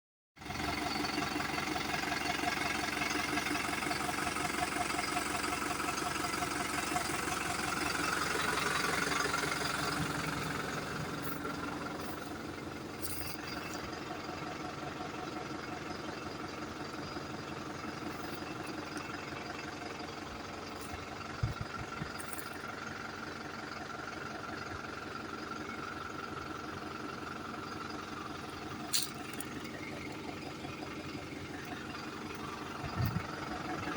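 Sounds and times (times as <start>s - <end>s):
tractor diesel engine running: 0.4s - 33.9s.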